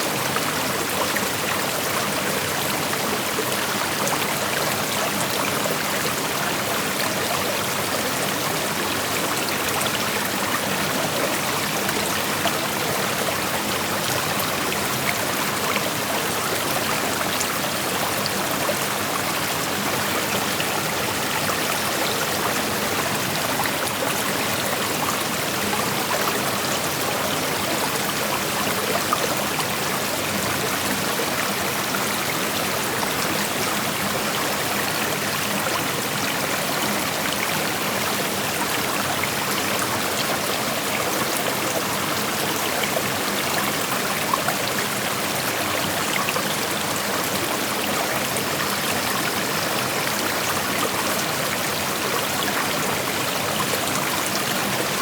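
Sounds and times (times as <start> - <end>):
creek flowing over rocks: 0.0 - 55.0.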